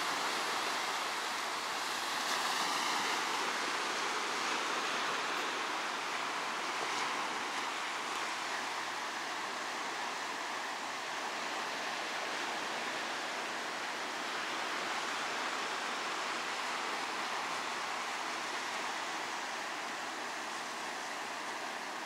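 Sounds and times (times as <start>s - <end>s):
sea surf washing: 0.0s - 22.0s.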